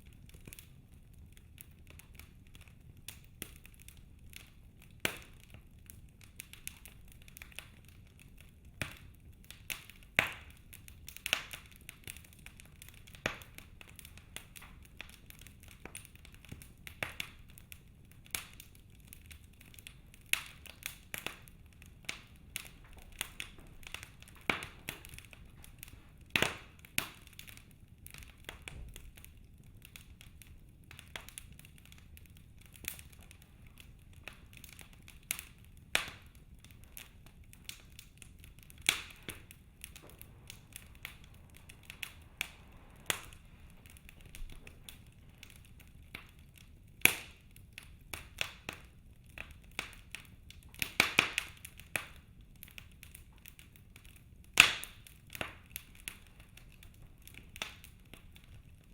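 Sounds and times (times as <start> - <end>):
logs crackling in fireplace: 0.0 - 58.9
soft steady hiss: 0.0 - 58.9
sharp pops and snaps: 8.8 - 46.4, 47.0 - 48.8, 49.4 - 58.3.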